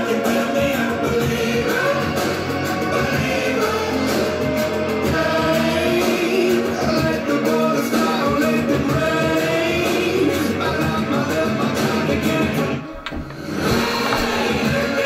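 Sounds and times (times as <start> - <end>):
drums: 0.0 - 15.0
wordless choir-like vocals: 0.0 - 15.0.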